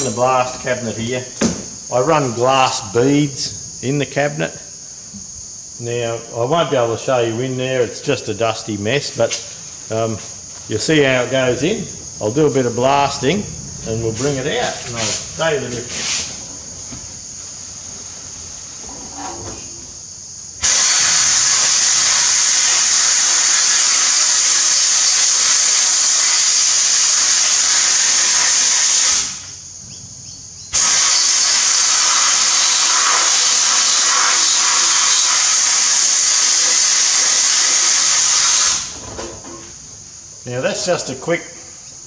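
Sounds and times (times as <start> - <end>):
blast cabinet hissing: 0.0 - 41.8.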